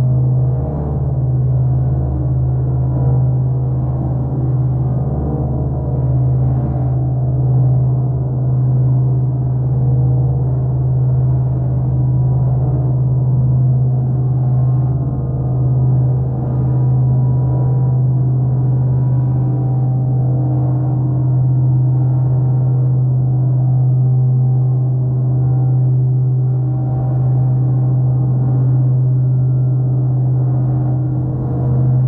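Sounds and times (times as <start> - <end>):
low synthesizer drone: 0.0 - 32.0.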